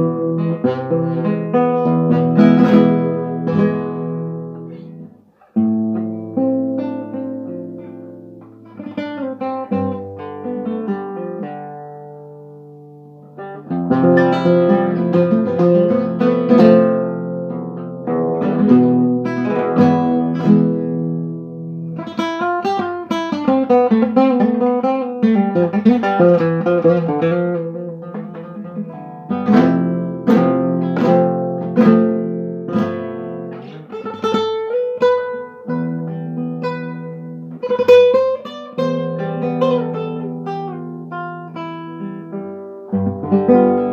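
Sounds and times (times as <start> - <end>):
acoustic guitar playing: 0.0 - 43.9.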